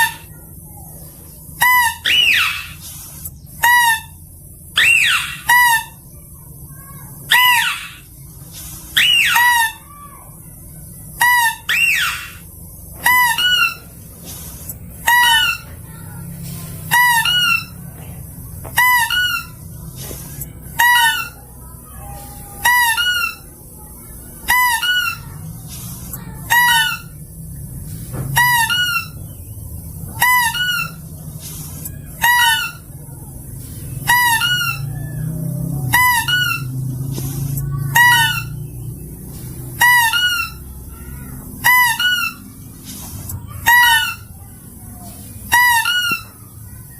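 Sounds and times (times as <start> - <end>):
low rumbling background: 0.0 - 45.7
high hooked animal cry: 1.6 - 2.9, 3.6 - 10.5, 11.2 - 17.9, 18.8 - 27.2, 28.3 - 29.3, 30.1 - 46.9.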